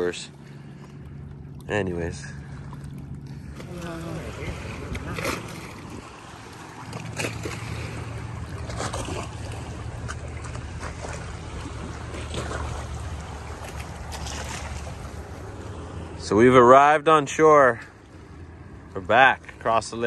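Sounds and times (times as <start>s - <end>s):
paddle stroke splashing: 0.0s - 16.2s
motorboat engines droning: 0.0s - 20.0s
water lapping and splashing: 0.0s - 20.0s.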